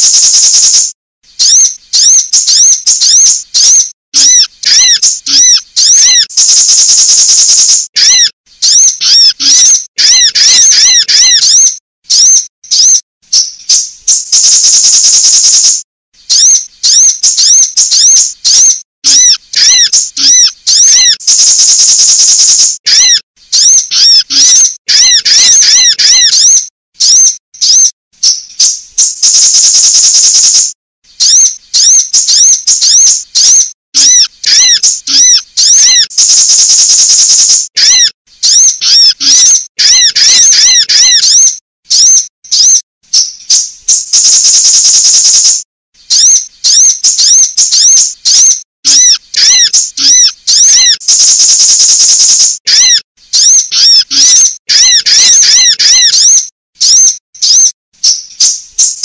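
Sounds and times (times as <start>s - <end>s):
sunbird chirps and trills: 0.0s - 45.4s, 46.0s - 59.0s.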